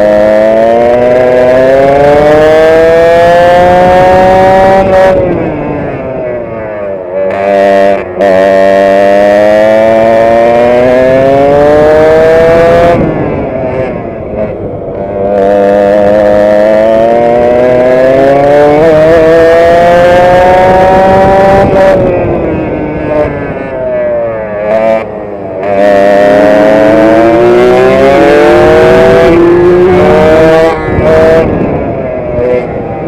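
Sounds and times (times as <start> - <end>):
racing kart engine at full throttle: 0.0 - 33.0.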